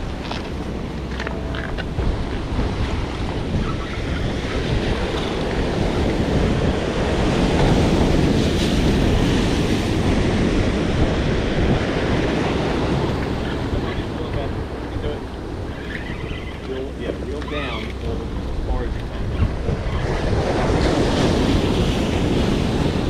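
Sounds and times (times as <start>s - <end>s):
ocean surf breaking on rocks: 0.0s - 23.0s
wind buffeting microphone: 0.0s - 23.0s.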